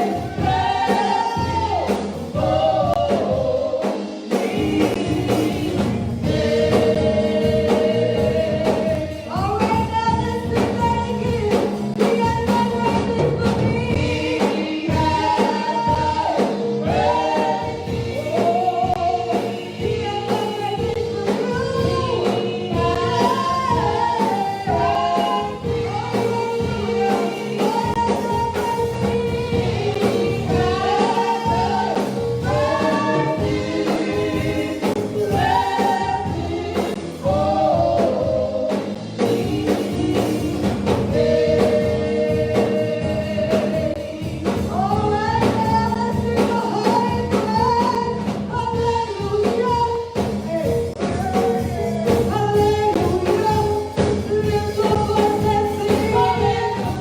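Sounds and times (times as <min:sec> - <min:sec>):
gospel singing with band: 0:00.0 - 0:57.0.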